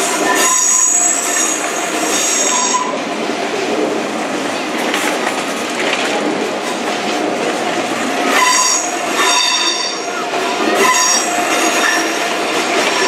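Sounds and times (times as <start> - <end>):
train wheels rumbling: 0.0 - 13.0
wheels clacking over rail joints: 0.0 - 13.0.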